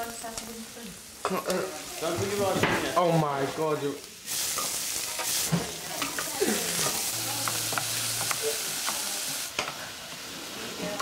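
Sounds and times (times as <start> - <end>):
food sizzling in saucepan: 0.0 - 11.0.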